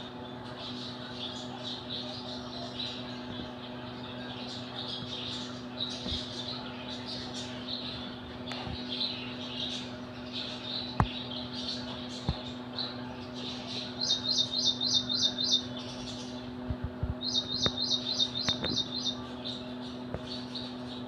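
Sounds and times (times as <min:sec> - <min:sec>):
steady low hum: 0:00.0 - 0:21.0
small bird chirping: 0:00.6 - 0:16.5, 0:17.2 - 0:21.0.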